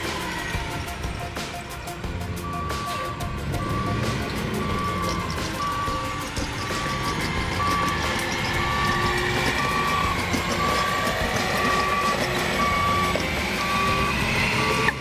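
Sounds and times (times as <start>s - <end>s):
truck engine running: 0.0s - 15.0s
reversing alarm beeping: 2.4s - 15.0s.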